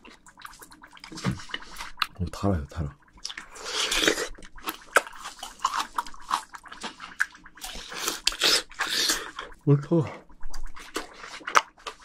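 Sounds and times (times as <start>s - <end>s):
mouth clicks and smacks: 0.0s - 2.2s, 2.8s - 12.0s
wet chewing: 0.0s - 2.2s, 2.8s - 12.0s.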